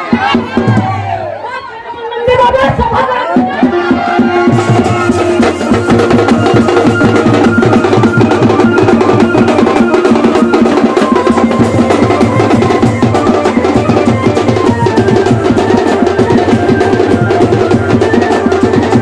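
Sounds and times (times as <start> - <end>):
fast folk drumming: 0.0 - 1.2, 2.3 - 19.0.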